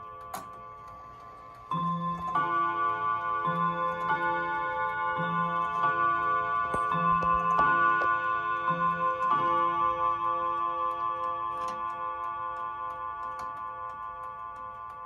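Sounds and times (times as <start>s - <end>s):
clock striking gong rods: 0.0s - 15.0s.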